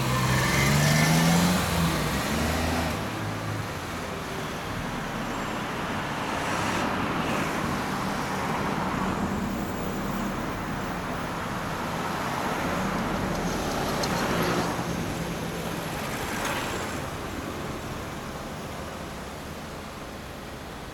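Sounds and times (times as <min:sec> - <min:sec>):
cars passing: 0:00.0 - 0:20.9.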